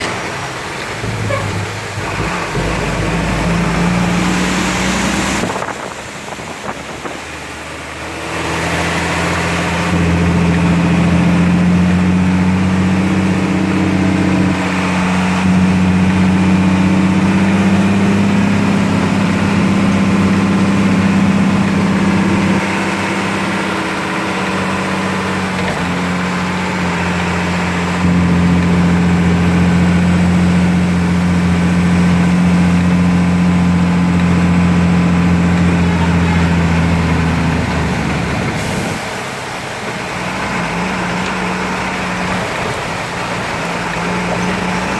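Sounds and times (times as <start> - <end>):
engine-like hum: 0.0 - 44.9.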